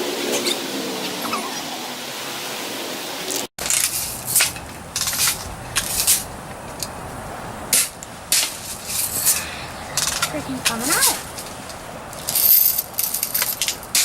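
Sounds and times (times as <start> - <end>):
steady hiss: 2.0 - 14.0.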